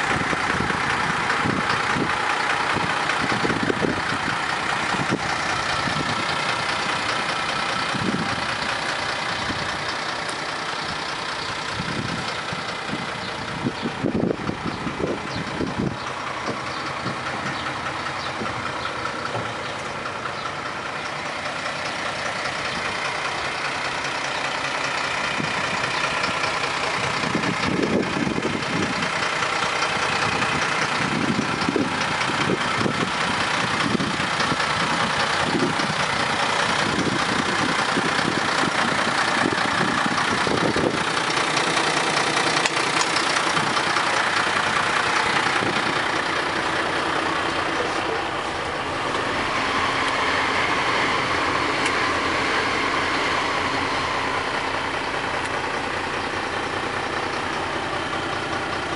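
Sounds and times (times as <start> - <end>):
truck diesel engine idling: 0.0 - 58.9.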